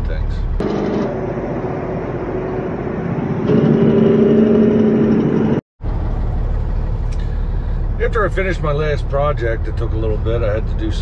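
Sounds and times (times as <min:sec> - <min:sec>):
low engine hum: 0:00.0 - 0:11.0
truck diesel engine running: 0:00.6 - 0:11.0.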